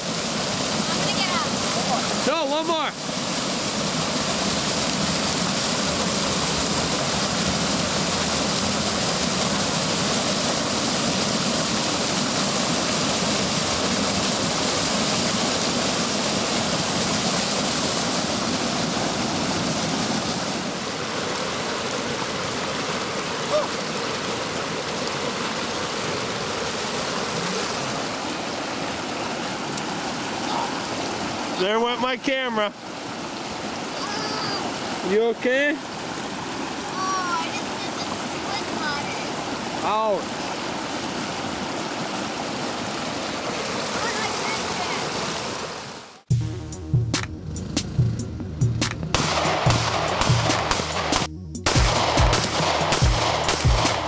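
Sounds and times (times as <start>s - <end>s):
whitewater rushing over rocks: 0.0s - 46.2s.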